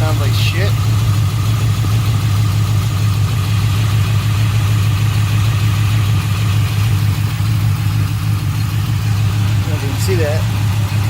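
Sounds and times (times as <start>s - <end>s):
car engine idling roughly: 0.0s - 11.0s.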